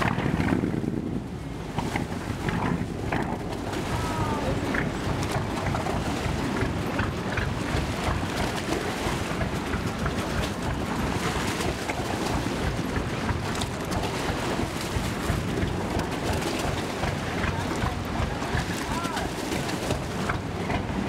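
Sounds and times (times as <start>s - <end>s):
boat engine rumbling: 0.0s - 21.0s
wind buffeting microphone: 0.0s - 21.0s.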